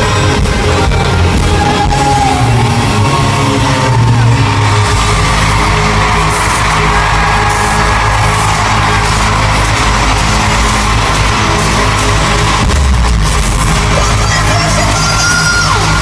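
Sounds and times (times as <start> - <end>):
crowd yelling and whooping: 0.0 - 16.0
live band music: 0.0 - 16.0.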